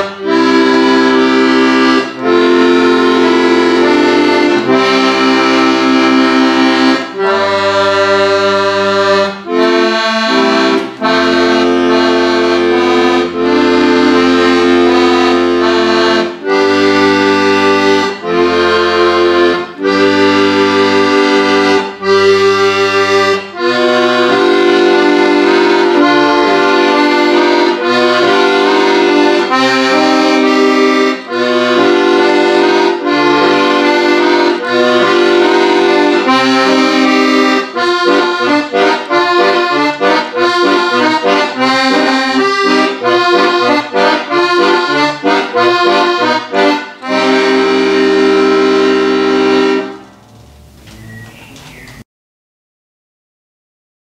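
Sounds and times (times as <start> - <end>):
piano accordion melody: 0.0 - 52.1.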